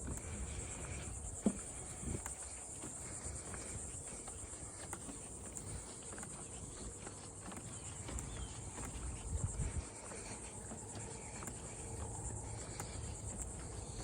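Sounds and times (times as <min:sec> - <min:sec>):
insects buzzing trill: 0:00.0 - 0:14.0.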